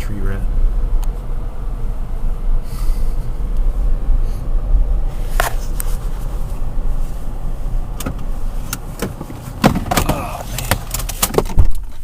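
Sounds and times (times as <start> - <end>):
engine and road rumble in car: 0.0 - 12.0.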